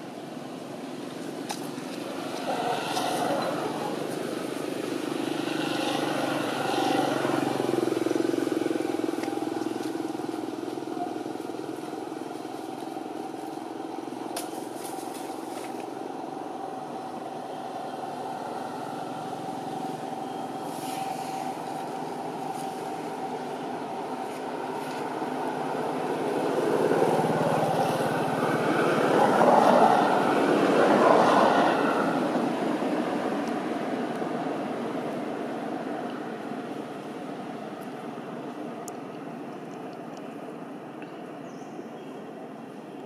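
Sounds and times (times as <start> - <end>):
vehicle engine hum: 0.0 - 43.0.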